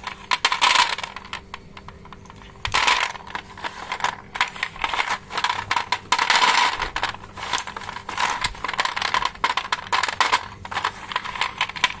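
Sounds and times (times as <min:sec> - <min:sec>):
chalk sticks clattering: 0:00.0 - 0:12.0.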